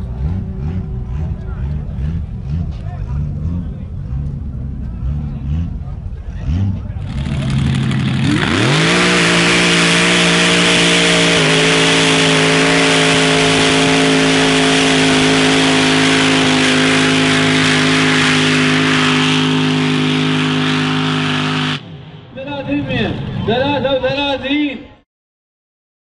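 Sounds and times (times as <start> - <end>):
truck engine revving: 0.0 - 23.4.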